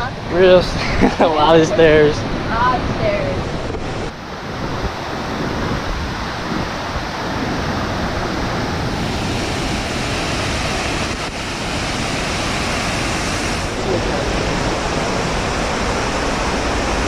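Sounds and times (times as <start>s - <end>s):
waterfall rushing: 1.2s - 17.0s.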